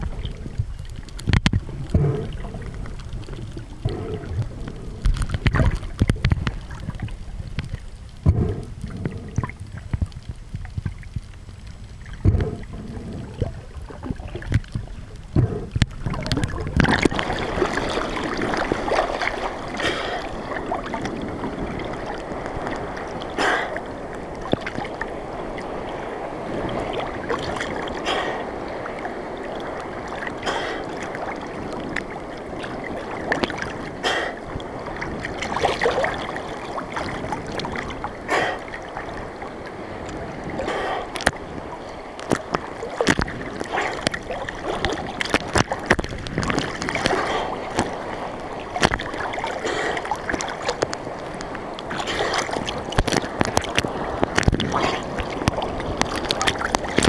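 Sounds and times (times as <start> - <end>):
seawater sloshing and splashing: 0.0 - 7.9, 12.0 - 57.0.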